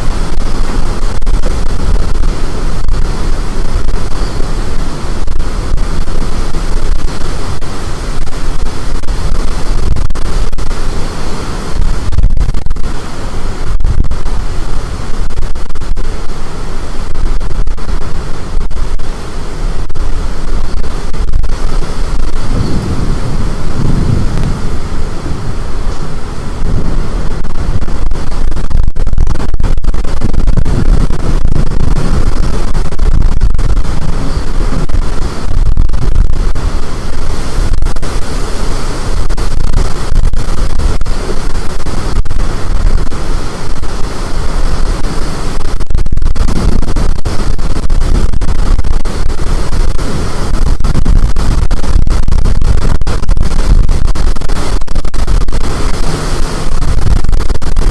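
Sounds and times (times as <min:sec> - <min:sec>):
strong wind buffeting microphone: 0:00.0 - 0:57.9.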